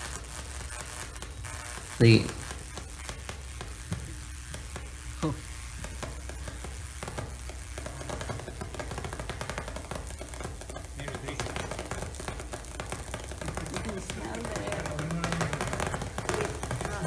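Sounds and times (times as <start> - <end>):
crackling electrical discharges: 0.0 - 17.0.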